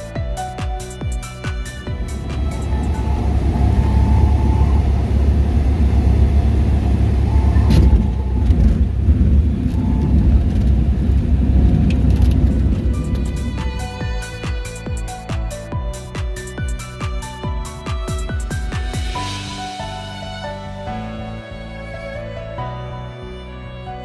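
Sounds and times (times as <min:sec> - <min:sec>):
airplane engine and propeller drone: 0:00.0 - 0:23.6.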